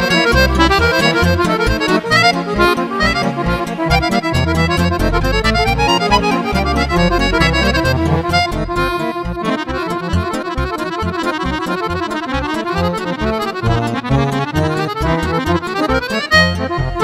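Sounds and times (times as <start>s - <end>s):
accordion playing fast melody: 0.0s - 17.0s
pulsing bass accompaniment: 0.0s - 17.0s.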